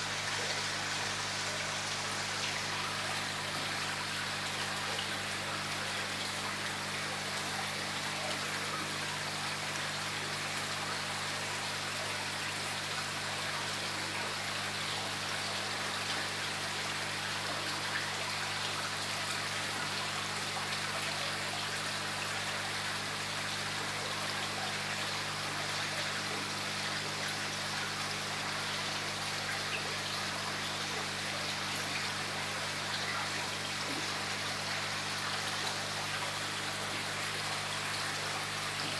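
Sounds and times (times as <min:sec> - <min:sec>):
water trickling in pond: 0:00.0 - 0:38.9.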